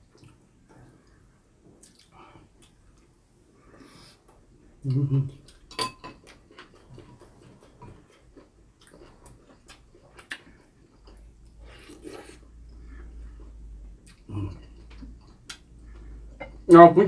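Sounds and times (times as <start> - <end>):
quiet chewing: 0.0 - 4.4, 5.3 - 16.7.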